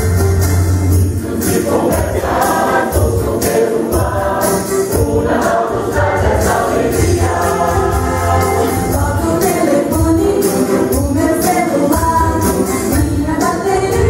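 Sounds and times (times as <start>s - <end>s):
instrumental accompaniment: 0.0s - 14.0s
steady percussion beat: 0.0s - 14.0s
choir singing: 0.9s - 13.5s.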